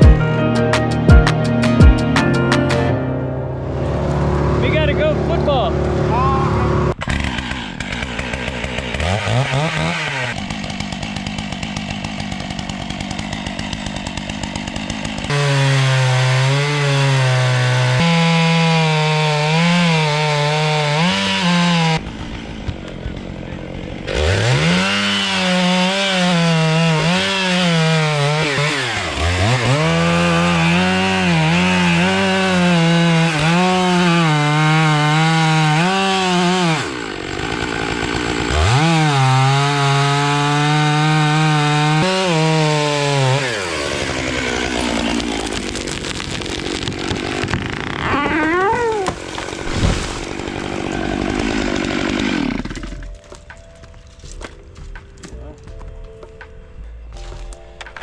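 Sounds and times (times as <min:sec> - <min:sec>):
chainsaw cutting wood: 0:00.0 - 0:03.0, 0:03.9 - 0:55.3.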